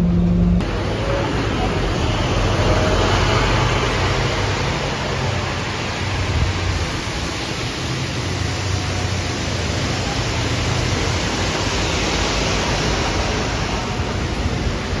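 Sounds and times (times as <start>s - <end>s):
bus engine drone: 0.0s - 15.0s
road and air noise: 0.0s - 15.0s.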